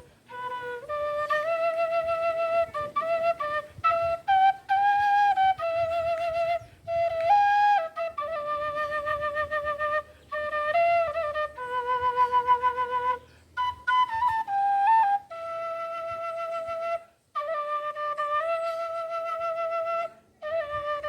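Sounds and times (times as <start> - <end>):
flute melody: 0.0 - 21.0.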